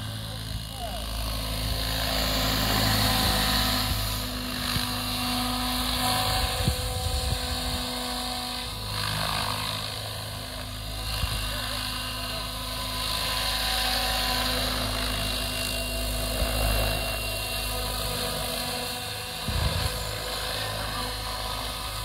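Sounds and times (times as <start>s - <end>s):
model helicopter rotor and motor: 0.0s - 22.0s.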